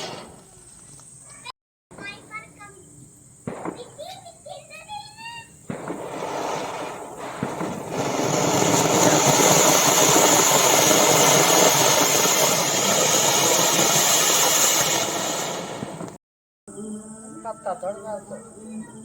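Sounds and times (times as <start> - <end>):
firework hissing and crackling: 0.0 - 16.2.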